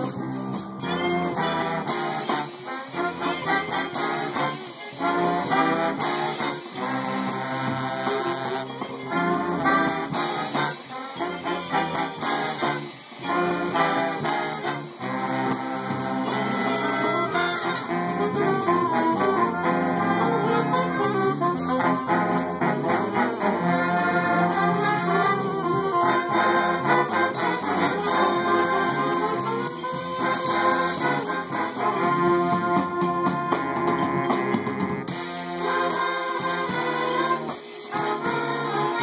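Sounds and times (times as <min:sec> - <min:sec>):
swing big band playing: 0:00.0 - 0:39.0.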